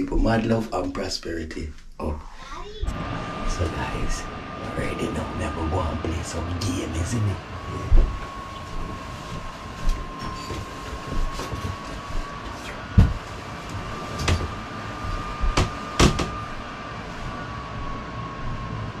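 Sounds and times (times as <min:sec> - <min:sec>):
faint whine: 0:00.0 - 0:19.0.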